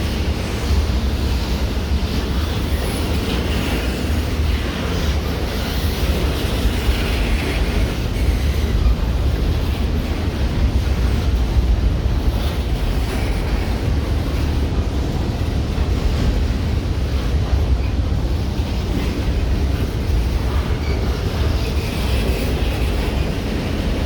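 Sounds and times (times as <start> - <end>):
train rumbling past: 0.0 - 24.0
wind buffeting microphone: 0.0 - 24.0.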